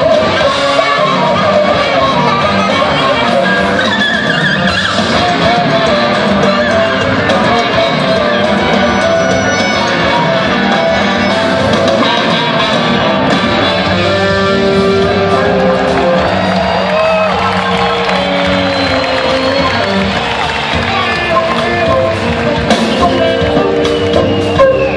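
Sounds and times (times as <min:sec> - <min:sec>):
electric guitar: 0:00.0 - 0:24.9
live rock band jamming: 0:00.0 - 0:24.9.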